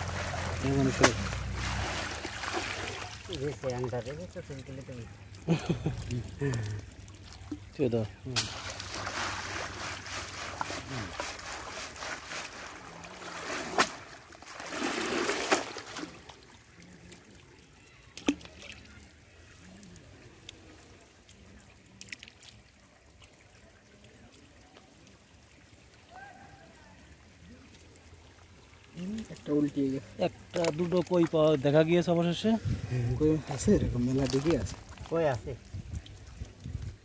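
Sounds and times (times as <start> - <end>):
water splashing and sloshing: 0.0 - 37.0.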